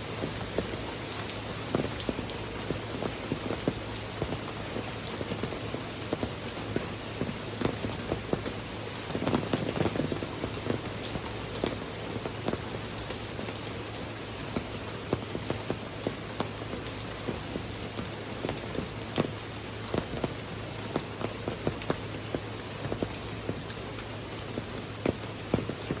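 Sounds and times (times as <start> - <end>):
heavy rain pouring: 0.0 - 26.0
raindrops splashing on surface: 0.0 - 26.0.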